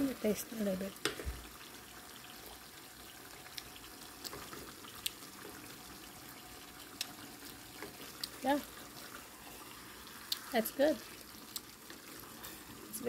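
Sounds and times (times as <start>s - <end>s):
pot simmering with faint sizzle: 0.0s - 13.0s.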